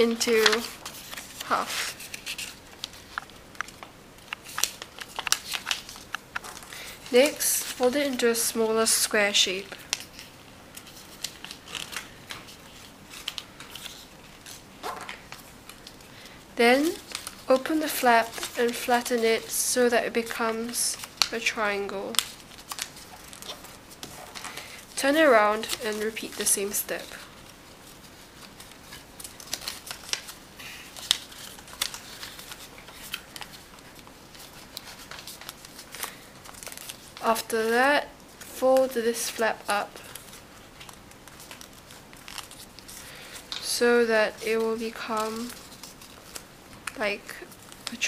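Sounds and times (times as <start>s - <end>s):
paper folding and crinkling: 0.0s - 48.0s.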